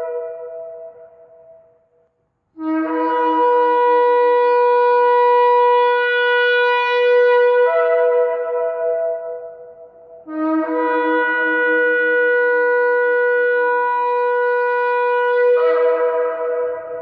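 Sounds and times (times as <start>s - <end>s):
shofar blasts: 0.0s - 1.6s, 2.6s - 9.7s, 10.3s - 17.0s.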